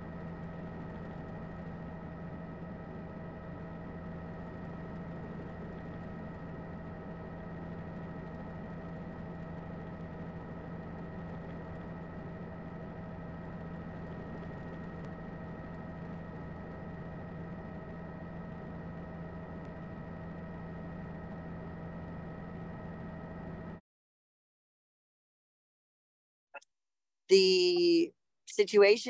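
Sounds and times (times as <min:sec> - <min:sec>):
helicopter droning: 0:00.0 - 0:23.8.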